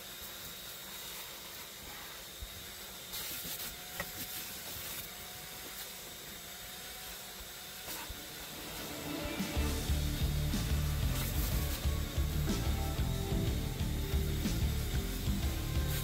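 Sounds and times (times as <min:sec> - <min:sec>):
vacuum cleaner hose hissing: 0:00.0 - 0:16.0.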